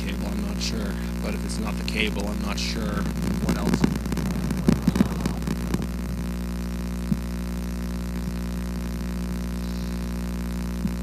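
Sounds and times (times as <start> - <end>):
electrical hum and buzz: 0.0 - 11.0.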